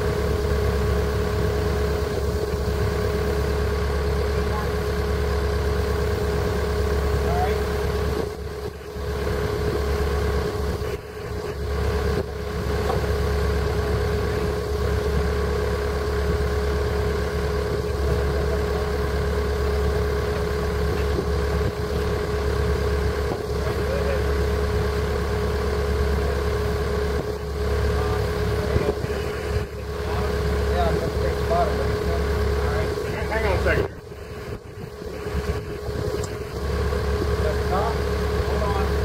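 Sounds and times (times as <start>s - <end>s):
motor droning hum: 0.0s - 39.0s.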